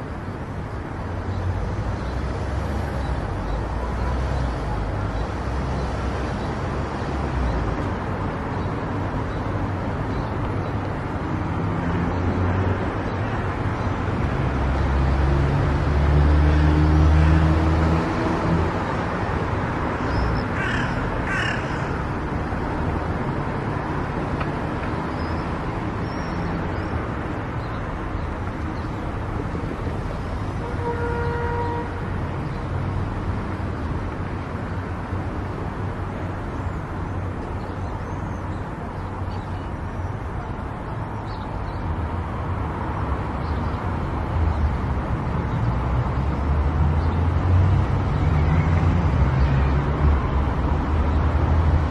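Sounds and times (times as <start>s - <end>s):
car road noise: 0.0s - 51.9s.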